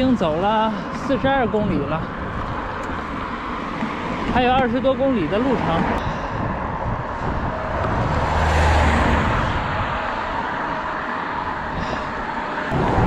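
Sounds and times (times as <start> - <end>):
passing vehicle engine hum: 0.0 - 13.0
road traffic noise: 0.0 - 13.0.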